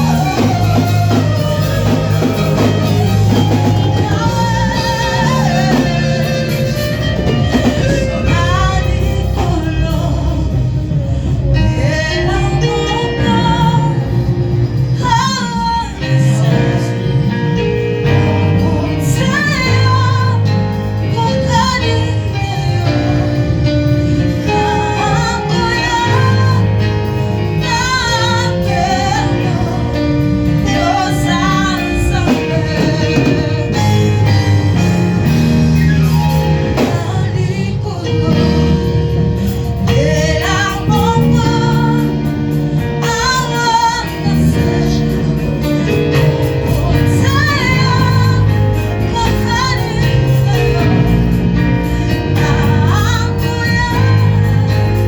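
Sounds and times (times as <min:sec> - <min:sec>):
instrumental backing with bass: 0:00.0 - 0:55.0
woman singing with vibrato: 0:00.0 - 0:55.0.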